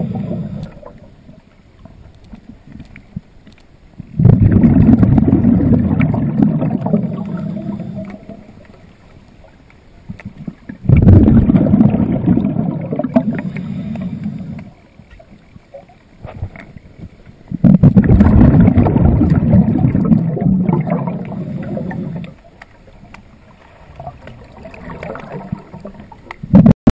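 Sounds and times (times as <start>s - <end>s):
underwater bubbles gurgling: 0.0s - 26.7s.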